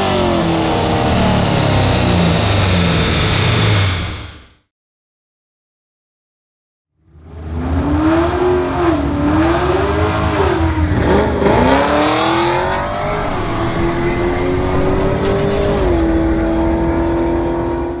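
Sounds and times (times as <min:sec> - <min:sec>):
car engine revving: 0:00.0 - 0:04.6, 0:07.2 - 0:18.0.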